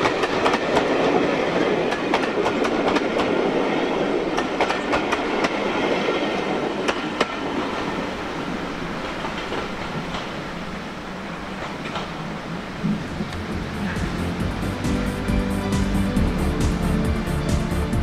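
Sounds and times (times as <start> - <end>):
train rumble: 0.0 - 18.0
train wheels clicking over rail joints: 0.0 - 18.0.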